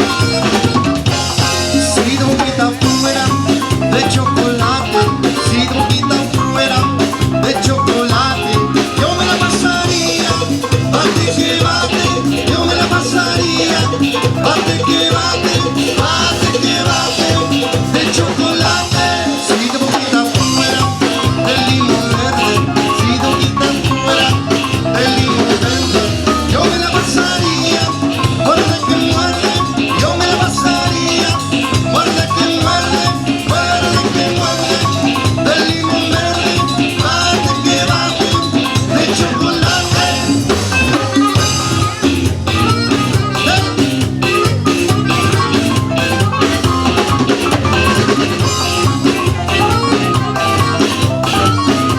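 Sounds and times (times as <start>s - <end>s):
latin dance band playing live: 0.0s - 51.9s.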